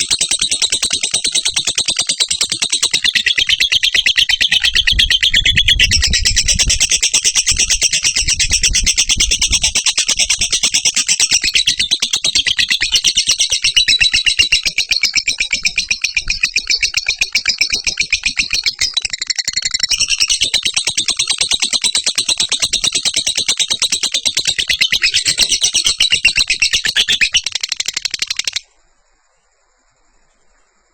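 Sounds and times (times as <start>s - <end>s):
lovebird shrill chattering: 0.0s - 28.6s.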